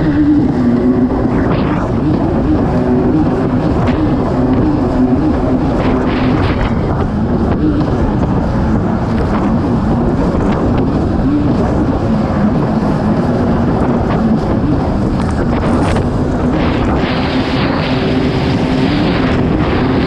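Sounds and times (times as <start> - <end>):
jet ski engine running: 0.0 - 20.0
wind noise on microphone: 0.0 - 20.0.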